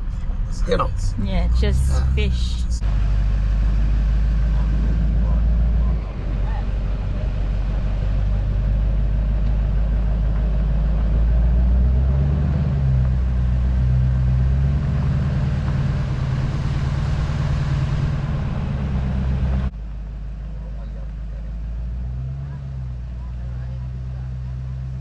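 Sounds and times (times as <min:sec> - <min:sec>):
vehicle engine and road hum: 0:00.0 - 0:25.0.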